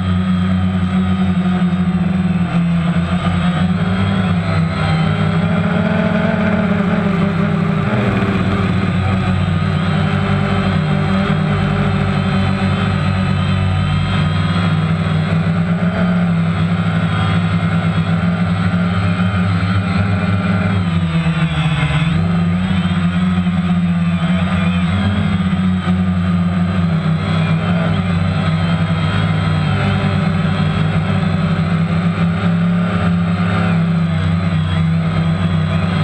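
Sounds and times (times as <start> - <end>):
drone motors buzzing: 1.7 - 36.0.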